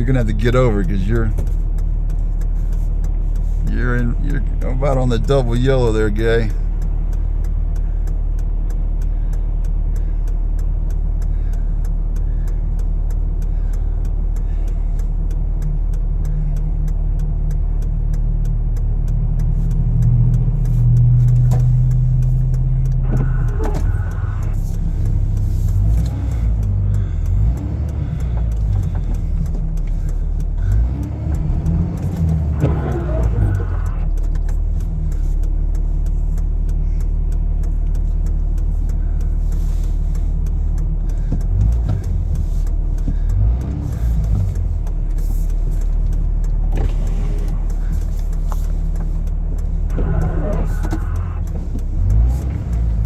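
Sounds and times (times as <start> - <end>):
faint regular ticking: 0.0 - 53.0
vehicle engine and tyre noise: 0.0 - 53.0.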